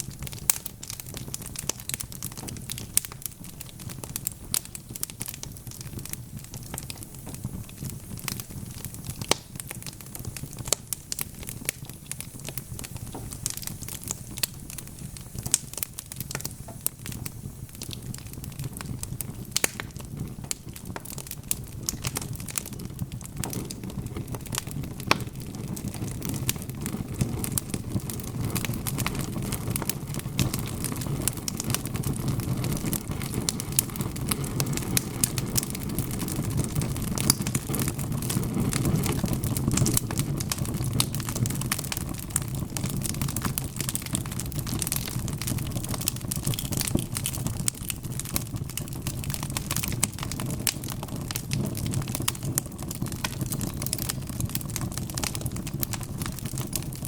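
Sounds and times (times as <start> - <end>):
low rumble of flames: 0.0 - 57.0
sharp fire pops: 0.0 - 57.0
wood fire crackling: 0.0 - 57.0.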